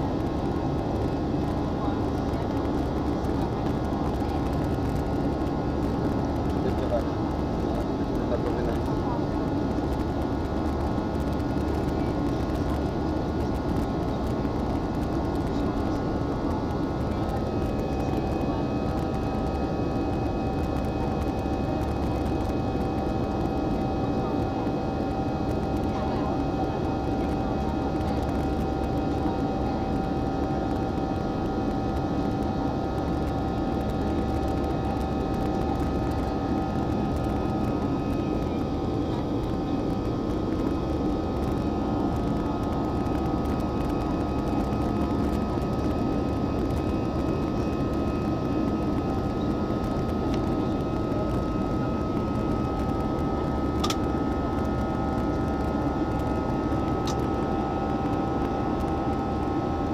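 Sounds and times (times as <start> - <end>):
jet engines and airflow rushing: 0.0 - 59.9.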